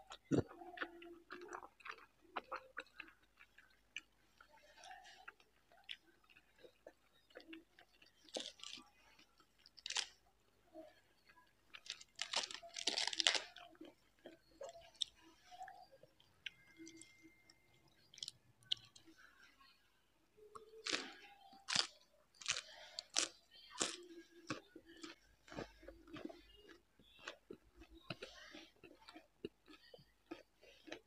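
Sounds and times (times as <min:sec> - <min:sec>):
person crunching and chewing: 0:00.0 - 0:10.2, 0:11.7 - 0:17.4, 0:18.0 - 0:19.0, 0:20.6 - 0:31.0.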